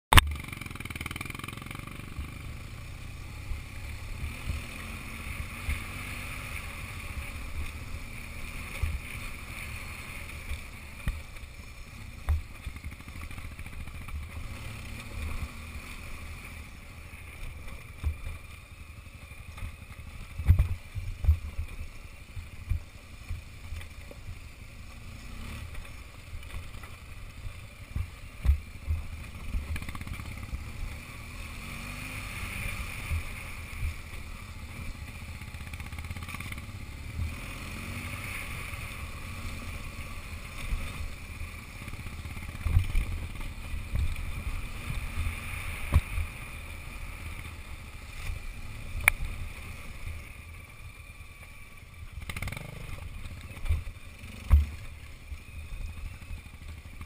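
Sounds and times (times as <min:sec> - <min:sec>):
motorcycle engine running: 0:00.1 - 0:57.0.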